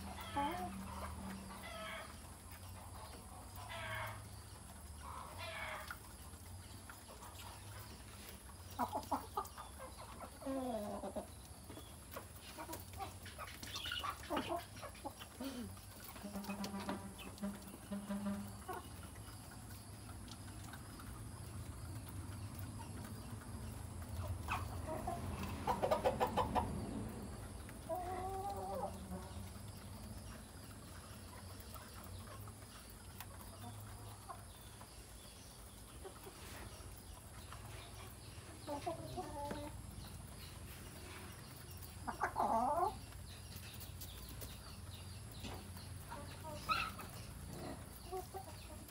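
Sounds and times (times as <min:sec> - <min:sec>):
hens and roosters clucking: 0:00.0 - 0:48.9.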